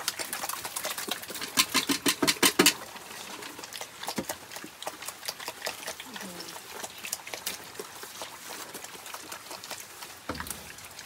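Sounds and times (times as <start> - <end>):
piglets chomping feed: 0.0 - 11.0.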